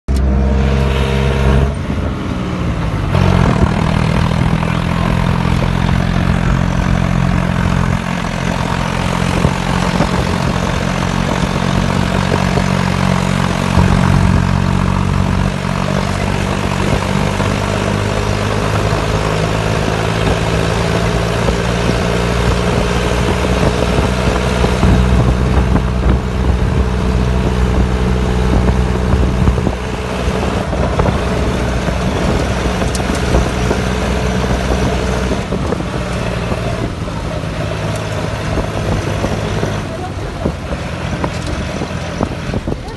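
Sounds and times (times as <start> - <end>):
tractor engine running: 0.1 - 42.9.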